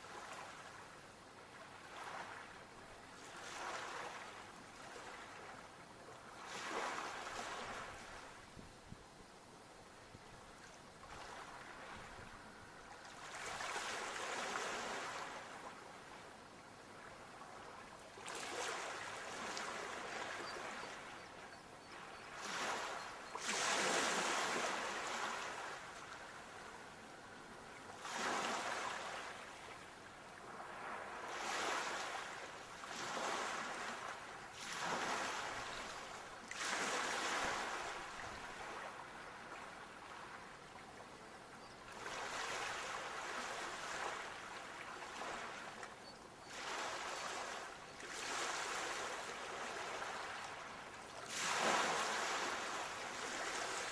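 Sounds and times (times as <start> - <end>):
sea waves breaking on shore: 3.2 - 5.6, 6.3 - 8.4, 11.0 - 16.2, 17.0 - 27.2, 27.8 - 40.8, 41.9 - 53.9.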